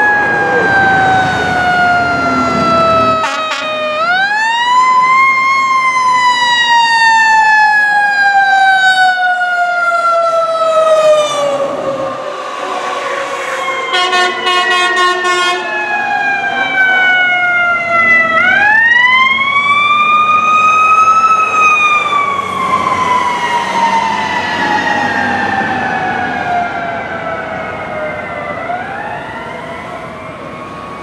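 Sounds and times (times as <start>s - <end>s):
ambulance siren wailing: 0.0s - 31.0s.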